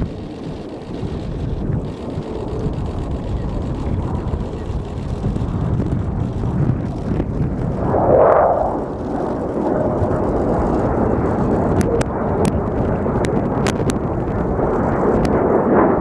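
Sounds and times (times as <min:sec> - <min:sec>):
sharp clicks: 0:00.0 - 0:07.8, 0:08.7 - 0:14.0
aircraft engines rumbling: 0:00.0 - 0:16.0.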